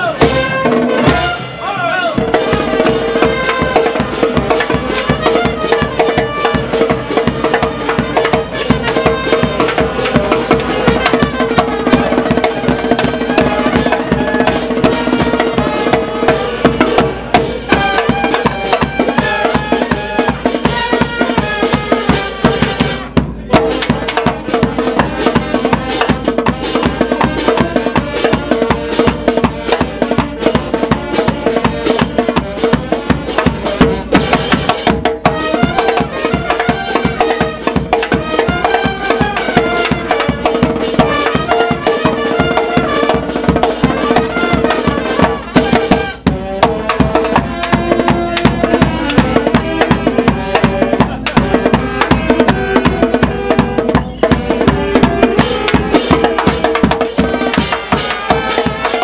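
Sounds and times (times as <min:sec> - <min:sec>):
bass drum beat: 0:00.0 - 0:59.0
brass band playing: 0:00.0 - 0:59.0.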